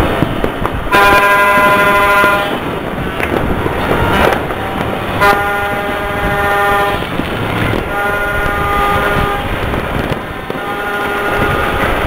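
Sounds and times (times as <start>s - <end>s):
firecrackers and fireworks crackling: 0.0s - 12.0s
horns blowing long blasts: 0.0s - 12.0s.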